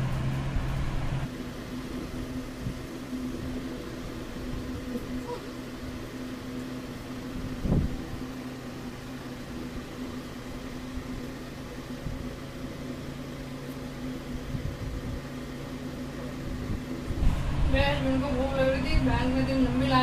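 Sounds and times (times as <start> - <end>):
electric fan humming: 0.0 - 20.0.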